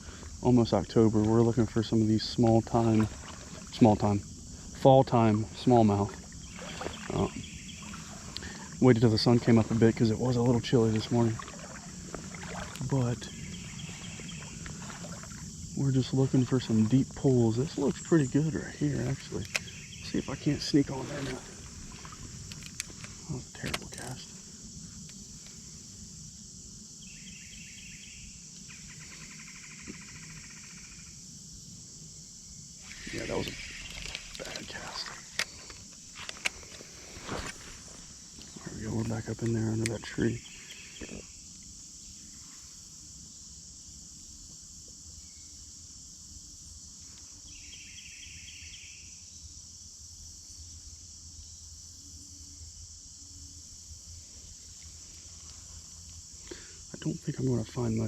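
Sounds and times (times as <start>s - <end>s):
crickets chirping: 0.0s - 58.0s
high-pitched insect chorus: 0.0s - 58.0s.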